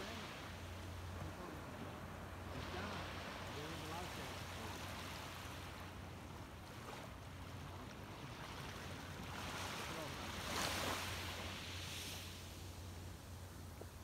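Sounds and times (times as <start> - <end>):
small waves washing on beach: 0.0 - 14.0.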